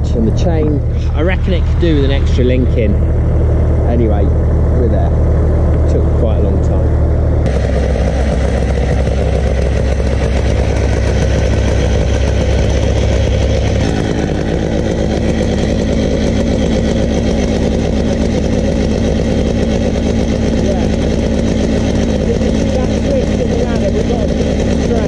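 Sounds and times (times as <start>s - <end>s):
chainsaw engines idling: 0.0s - 25.0s.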